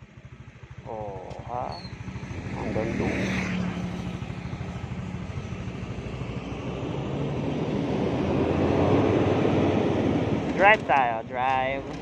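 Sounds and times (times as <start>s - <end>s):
vehicle engine while driving: 0.0s - 12.0s.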